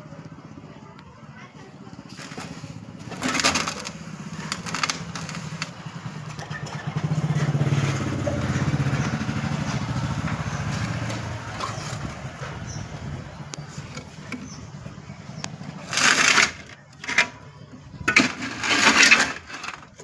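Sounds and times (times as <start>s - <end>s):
engine running: 0.0s - 20.0s
scraping crunching noises: 1.6s - 20.0s.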